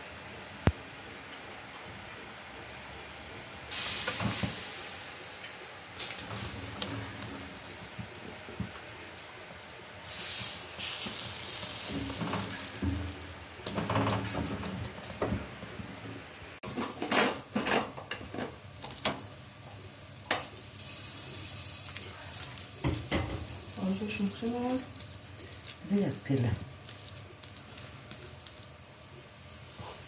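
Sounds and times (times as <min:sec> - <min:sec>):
flatbreads sizzling on griddle: 0:03.7 - 0:30.0.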